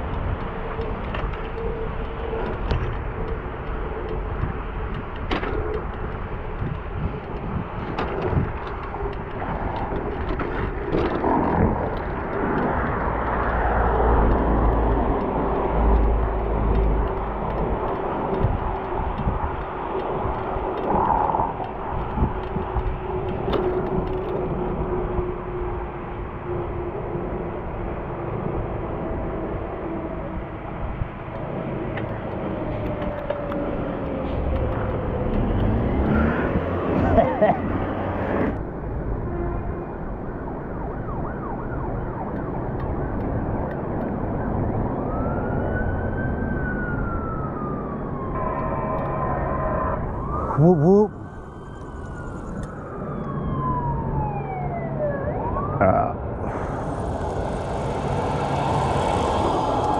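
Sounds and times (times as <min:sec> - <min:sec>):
emergency siren wailing: 0:00.0 - 0:05.0, 0:06.6 - 0:59.9
bicycle road rumble: 0:00.0 - 0:59.9
wind noise: 0:00.0 - 0:59.9.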